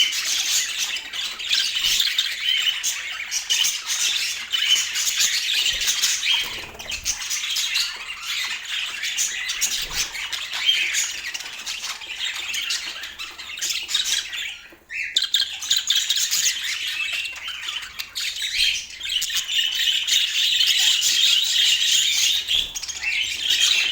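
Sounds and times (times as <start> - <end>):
budgerigars chattering and squawking: 0.0 - 23.9.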